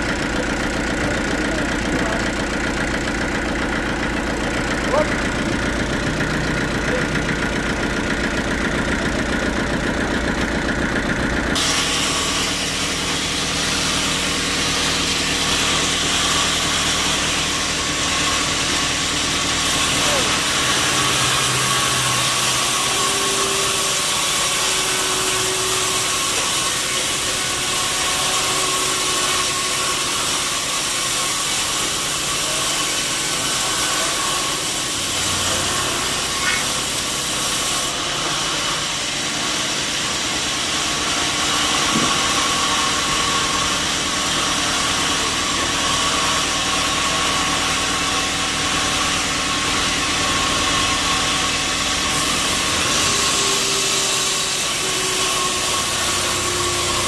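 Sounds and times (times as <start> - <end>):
sawmill saw running: 0.0 - 57.0
steady saw whine: 0.0 - 57.0.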